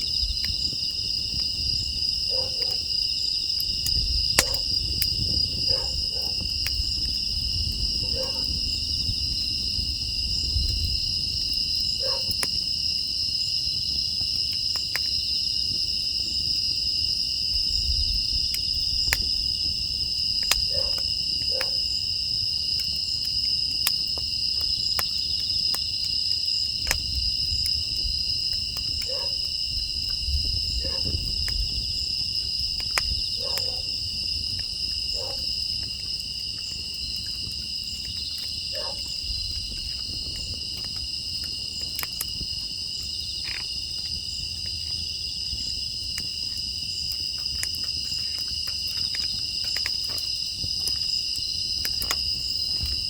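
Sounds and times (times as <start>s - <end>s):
crickets and insects chirring: 0.0s - 53.0s
wood fire crackling and popping: 0.0s - 53.0s.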